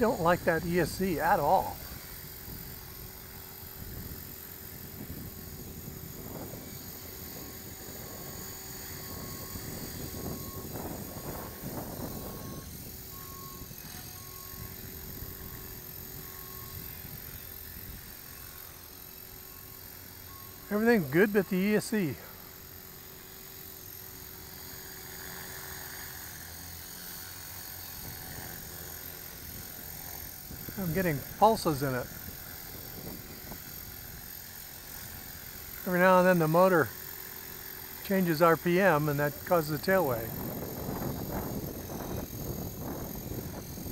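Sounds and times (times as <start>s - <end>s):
faint high whine: 0.0s - 43.9s
rc helicopter motor and rotor: 0.0s - 43.9s.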